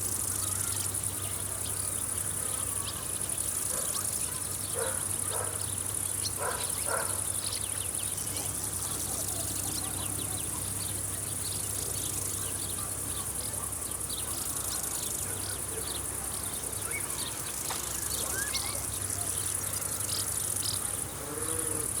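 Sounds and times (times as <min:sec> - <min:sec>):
crickets trilling: 0:00.0 - 0:22.0
faint bird calls: 0:00.1 - 0:22.0.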